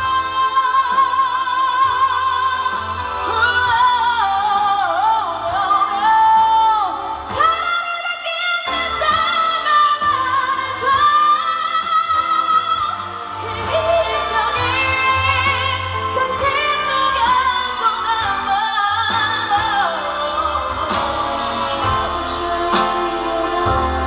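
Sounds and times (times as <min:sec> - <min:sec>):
band playing: 0:00.0 - 0:24.0
woman singing pop ballad: 0:00.0 - 0:24.0.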